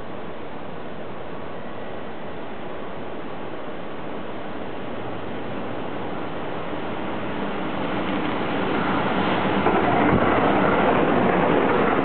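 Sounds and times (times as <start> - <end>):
train wheels rushing on rail: 0.0 - 12.0.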